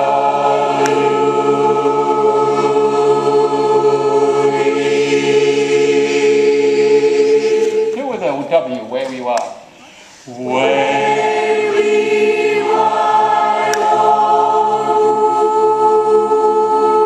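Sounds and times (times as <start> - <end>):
mixed choir holding a chord: 0.0 - 8.5, 10.3 - 17.0.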